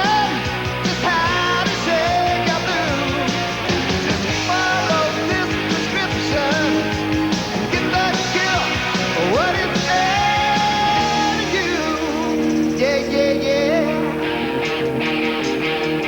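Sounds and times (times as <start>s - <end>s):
rock music with vocals: 0.0s - 16.0s.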